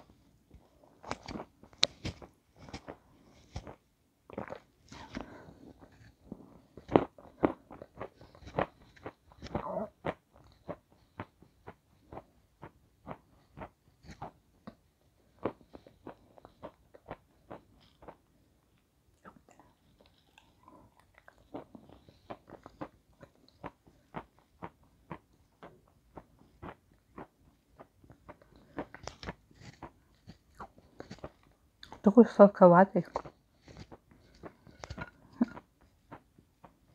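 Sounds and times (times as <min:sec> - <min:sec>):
chewing crunchy chunks: 0:00.1 - 0:32.1, 0:33.0 - 0:36.9.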